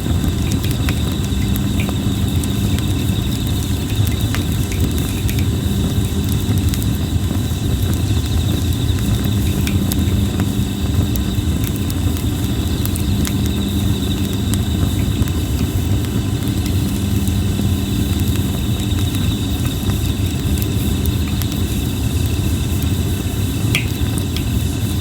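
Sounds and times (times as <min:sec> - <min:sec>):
campfire crackling and popping: 0:00.0 - 0:25.0
insects trilling: 0:00.0 - 0:25.0.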